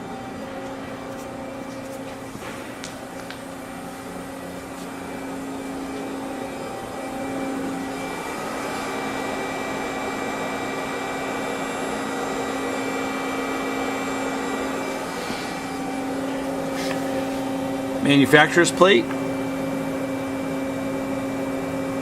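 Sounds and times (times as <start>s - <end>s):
hydraulic pump humming: 0.0s - 22.0s.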